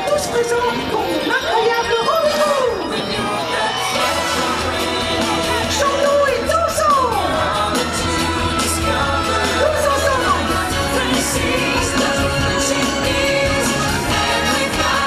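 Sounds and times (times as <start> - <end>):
stage music over loudspeakers: 0.0 - 15.0.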